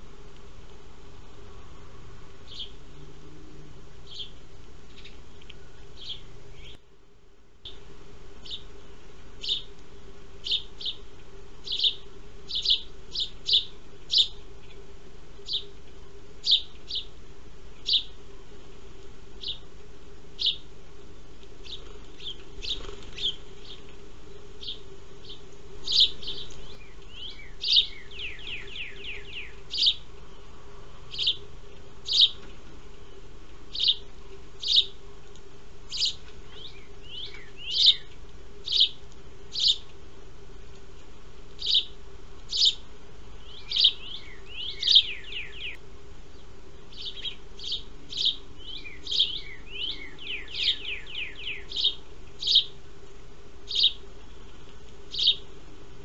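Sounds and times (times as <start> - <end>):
sparrows chirping: 1.4 - 6.9, 7.7 - 18.8, 19.4 - 19.7, 20.3 - 39.9, 41.5 - 52.9, 53.6 - 55.6.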